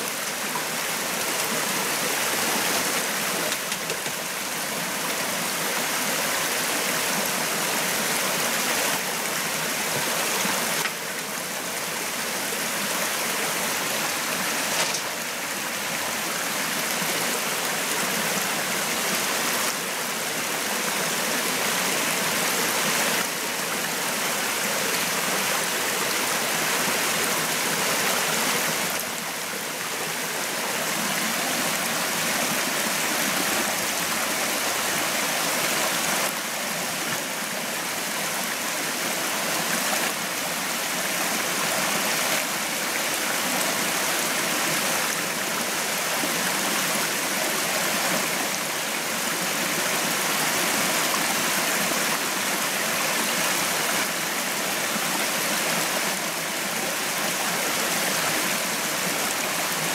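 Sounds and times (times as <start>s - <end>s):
stream water running: 0.0s - 59.9s.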